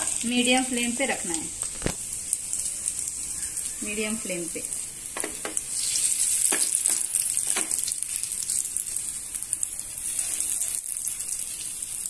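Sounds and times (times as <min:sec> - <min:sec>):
fish sizzling in oil: 0:00.0 - 0:12.0
oil crackles: 0:00.0 - 0:12.0.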